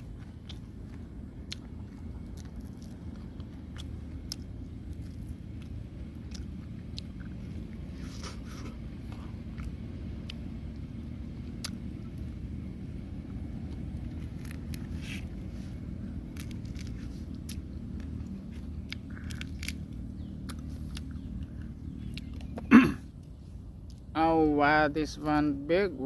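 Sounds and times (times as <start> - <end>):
person biting and chewing crispy food: 0.0 - 24.1
low rumble: 0.0 - 25.1.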